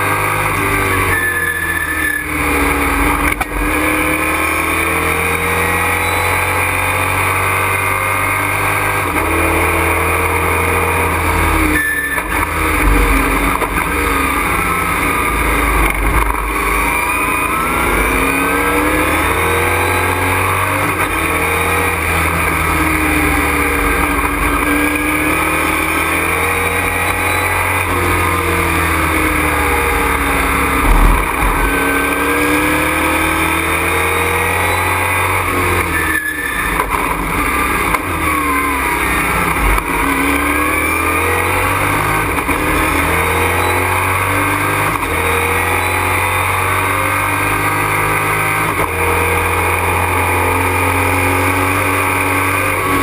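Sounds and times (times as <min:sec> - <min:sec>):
racing truck engine revving: 0:00.0 - 0:53.0.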